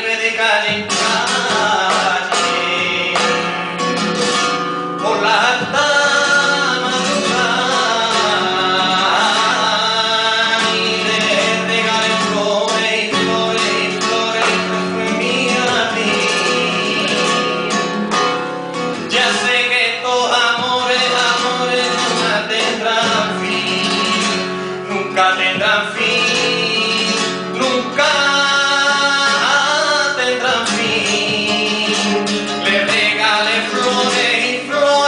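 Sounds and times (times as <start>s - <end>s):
man singing flamenco: 0.0s - 35.0s
plucked flamenco guitar: 0.0s - 35.0s.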